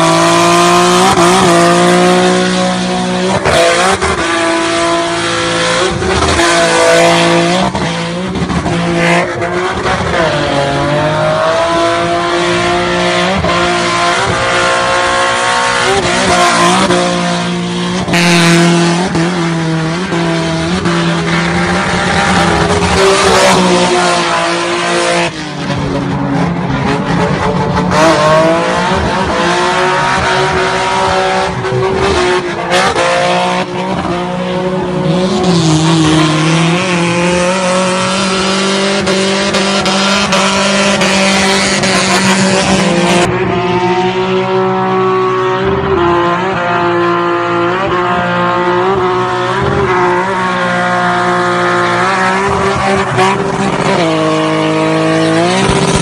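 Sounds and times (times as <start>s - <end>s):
car engine revving high: 0.0s - 56.0s.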